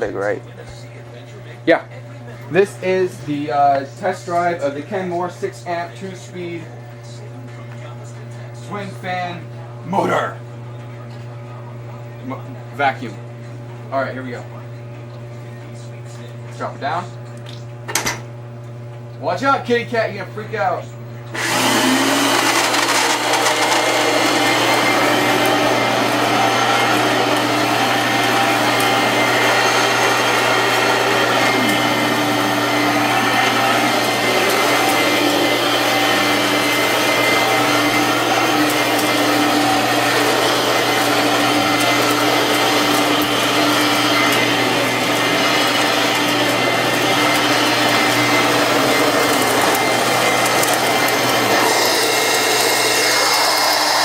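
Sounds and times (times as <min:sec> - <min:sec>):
vacuum cleaner running: 0:00.0 - 0:10.4, 0:19.3 - 0:54.0.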